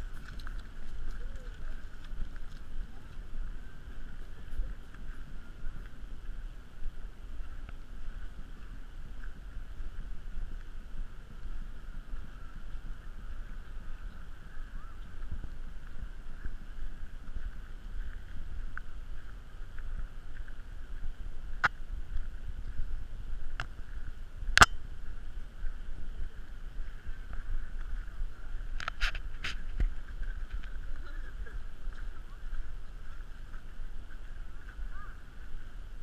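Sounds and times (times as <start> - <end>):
wind and movement rumble: 0.0 - 36.0.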